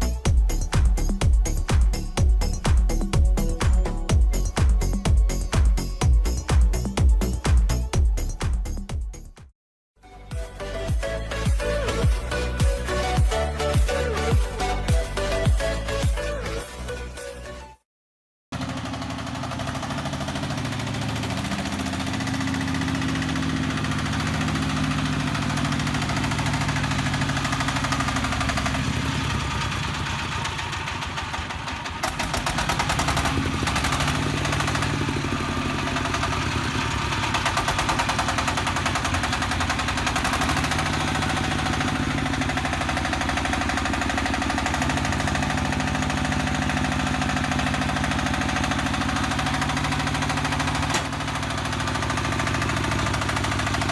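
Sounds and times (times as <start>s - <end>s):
diesel engine knocking clatter: 0.0s - 9.5s, 18.5s - 53.9s.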